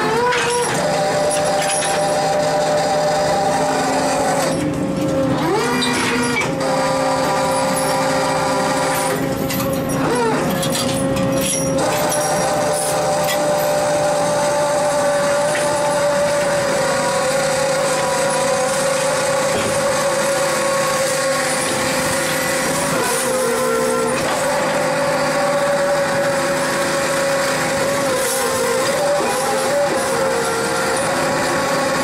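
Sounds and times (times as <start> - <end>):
boat machinery drone: 0.0 - 32.0.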